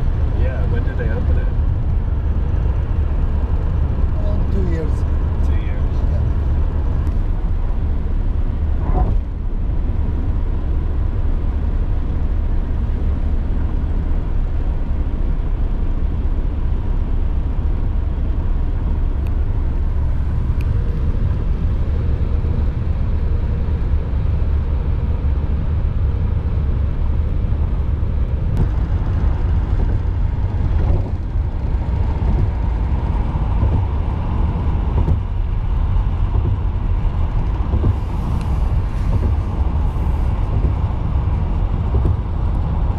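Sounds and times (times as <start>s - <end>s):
vehicle rumbling in motion: 0.0s - 42.9s.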